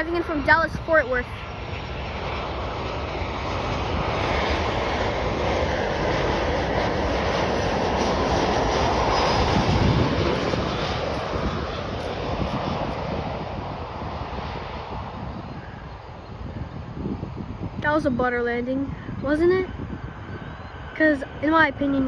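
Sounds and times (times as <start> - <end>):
jet airliner passing by: 0.0 - 22.0.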